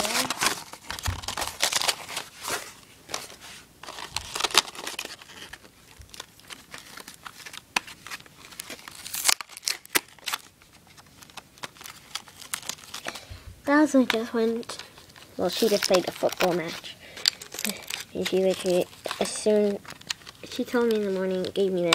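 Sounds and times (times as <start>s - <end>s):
wrapping paper ripping: 0.0s - 13.3s, 14.0s - 21.9s
gift wrapping rustling and crackling: 0.0s - 21.9s.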